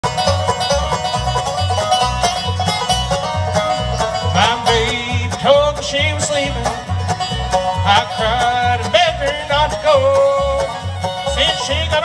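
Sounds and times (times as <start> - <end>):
acoustic guitar: 0.0 - 12.0
banjo: 0.0 - 12.0
fiddle: 0.0 - 12.0
mandolin: 0.0 - 12.0
upright bass: 0.0 - 12.0.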